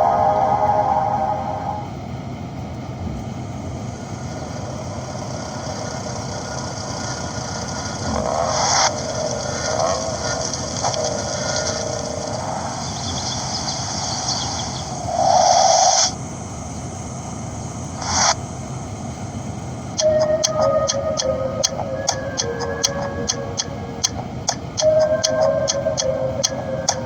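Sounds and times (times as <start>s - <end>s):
truck engine rumbling: 0.0s - 27.0s.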